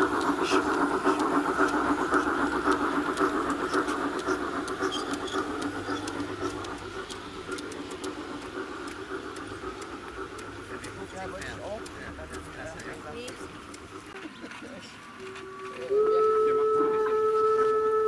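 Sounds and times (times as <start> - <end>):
track clicks: 0.0 - 15.8
model train wheels rumbling: 0.0 - 18.0.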